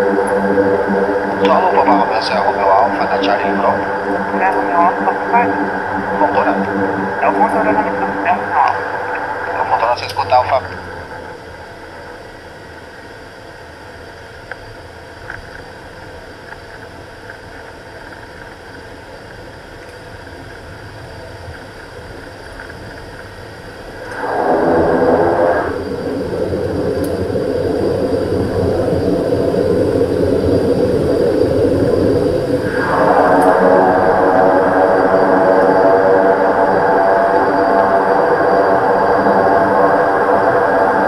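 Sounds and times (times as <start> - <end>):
turboprop engines running: 0.0 - 41.0.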